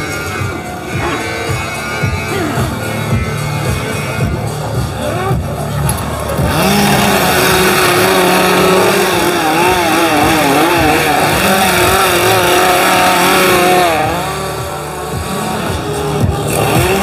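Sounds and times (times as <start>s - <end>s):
chainsaws revving: 0.0s - 17.0s.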